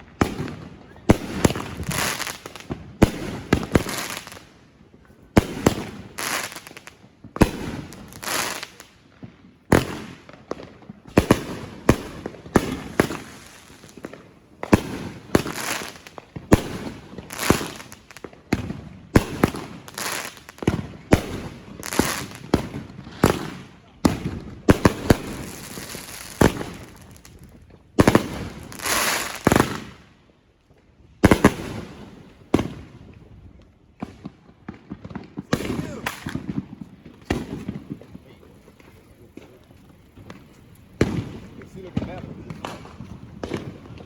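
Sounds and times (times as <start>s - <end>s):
fireworks banging and crackling: 0.0s - 44.0s.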